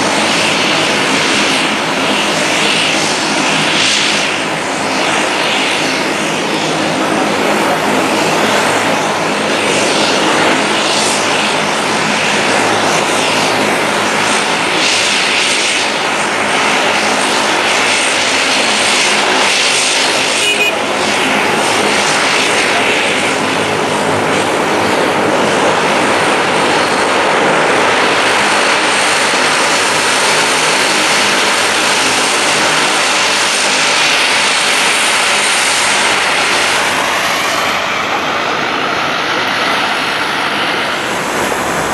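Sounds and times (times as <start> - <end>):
turboprop engines running: 0.0 - 41.9.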